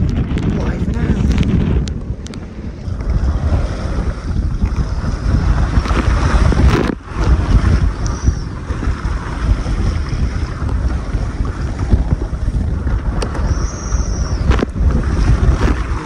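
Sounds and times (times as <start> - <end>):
water splashing along hull: 0.0 - 16.0
wind buffeting microphone: 0.0 - 16.0.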